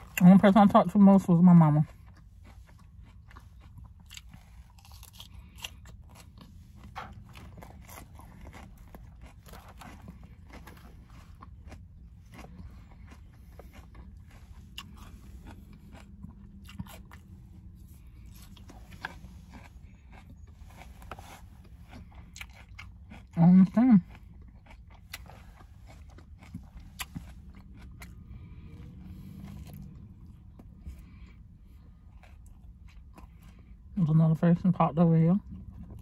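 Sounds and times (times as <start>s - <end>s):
person chewing and crunching food: 0.0s - 36.0s
steady low hum: 0.0s - 36.0s.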